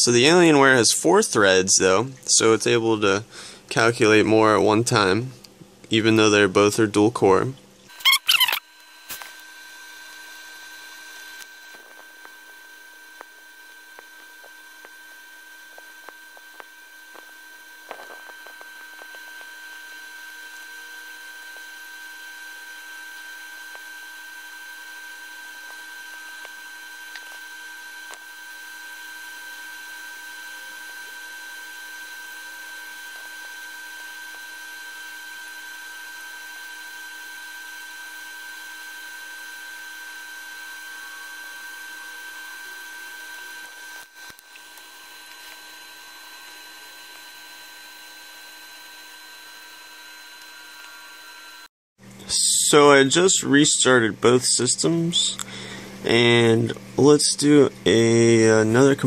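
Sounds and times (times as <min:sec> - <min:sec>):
laptop cooling fans whining: 0:07.2 - 0:59.0.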